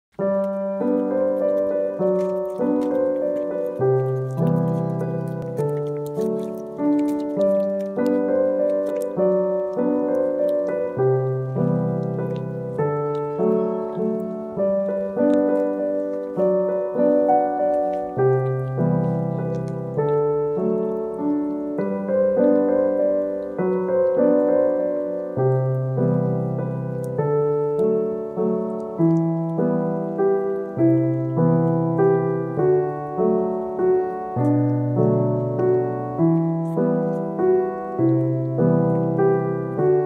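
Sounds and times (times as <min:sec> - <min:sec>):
slow piano music: 0:00.1 - 0:40.0.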